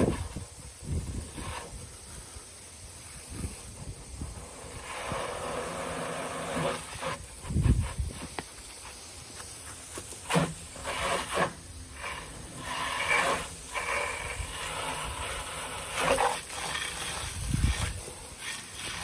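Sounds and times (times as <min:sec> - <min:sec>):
hose spraying onto metal: 0:00.0 - 0:19.0.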